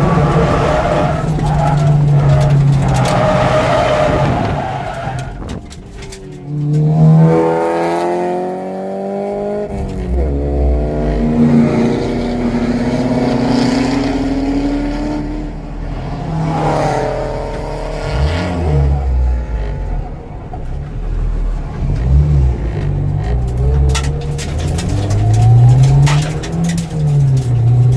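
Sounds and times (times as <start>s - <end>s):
car engine revving through gears: 0.0s - 27.9s.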